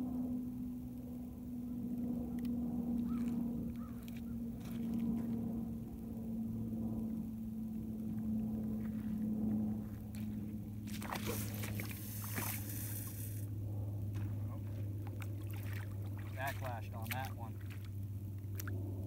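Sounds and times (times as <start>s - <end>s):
fishing reel spool whirring: 0.0s - 19.0s
low hum: 0.0s - 19.0s.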